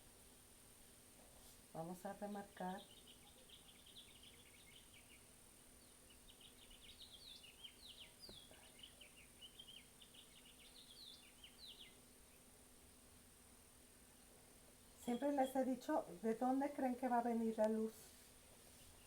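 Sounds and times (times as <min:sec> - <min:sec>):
faint electrical hum: 0:00.0 - 0:19.0
faint bird chirping: 0:01.2 - 0:13.1, 0:13.9 - 0:19.0.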